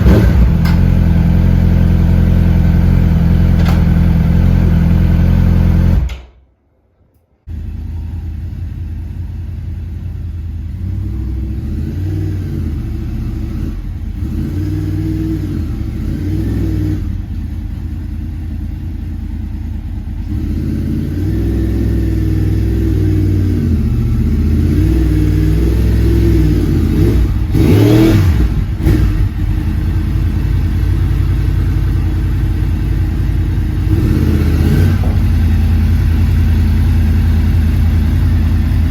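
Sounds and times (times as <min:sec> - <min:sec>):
motorcycle engine revving: 0:00.0 - 0:06.2, 0:07.5 - 0:38.9.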